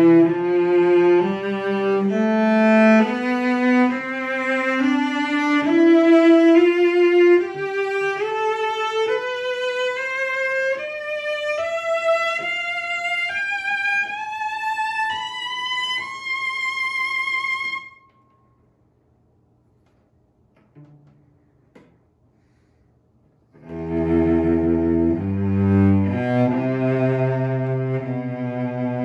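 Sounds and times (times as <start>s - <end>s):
cello bowed scale with vibrato: 0.0s - 18.2s, 23.5s - 29.0s.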